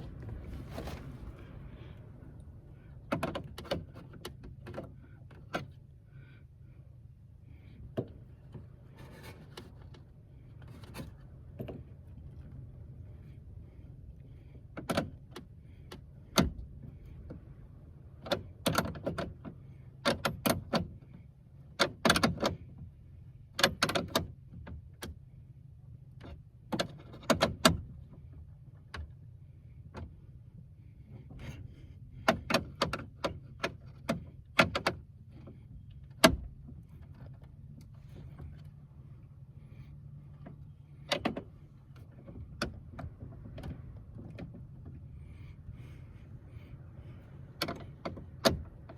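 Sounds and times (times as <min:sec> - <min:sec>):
steady low hum: 0:00.0 - 0:18.7, 0:27.8 - 0:48.9.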